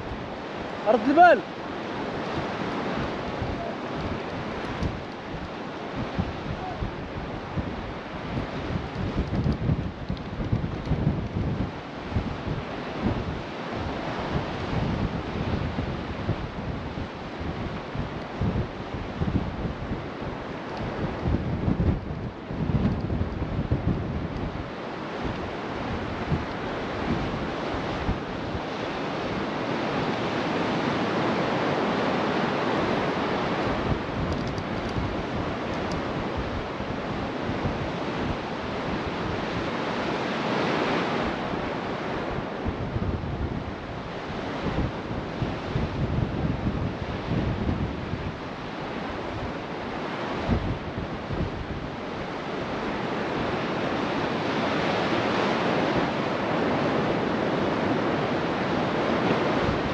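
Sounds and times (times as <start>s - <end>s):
surf breaking and washing in: 0.0s - 59.9s
wind buffeting microphone: 0.0s - 59.9s.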